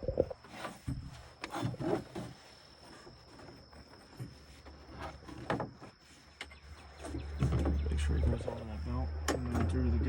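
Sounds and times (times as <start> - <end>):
cricket chirring: 0.0 - 10.0.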